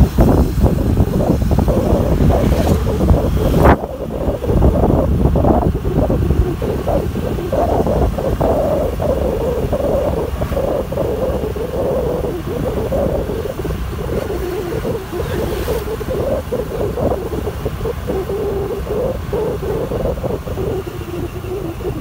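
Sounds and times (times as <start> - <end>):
scooter engine and road rumble: 0.0 - 22.0
wind buffeting microphone: 0.0 - 22.0.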